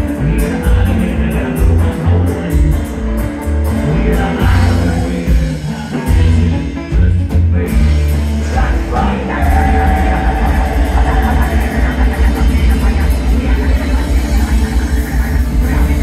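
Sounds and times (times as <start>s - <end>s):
banjo: 0.0s - 16.0s
electric guitar: 0.0s - 16.0s
person singing: 0.0s - 16.0s
steady drum beat: 0.0s - 16.0s.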